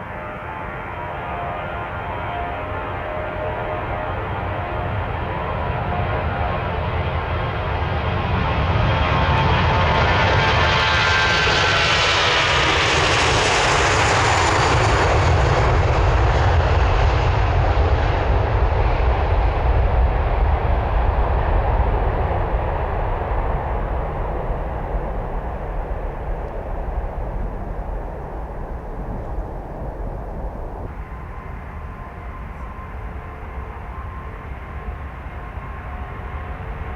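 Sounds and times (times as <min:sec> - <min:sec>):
jet airliner passing: 0:00.0 - 0:36.9.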